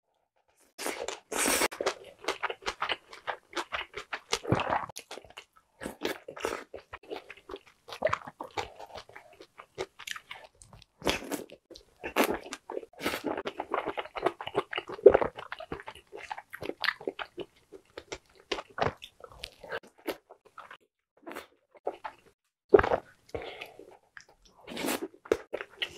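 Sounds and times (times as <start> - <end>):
chewing soft food: 0.8 - 25.9.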